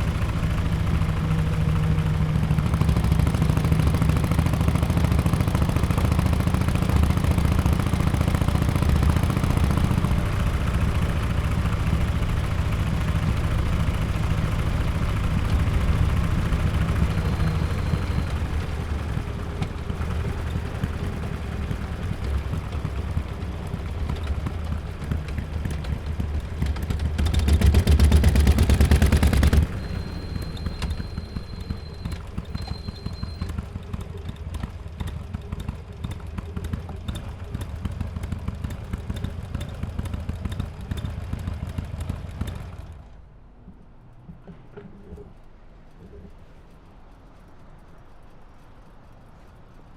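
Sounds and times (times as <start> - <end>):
motorcycle engine revving: 0.0 - 43.1.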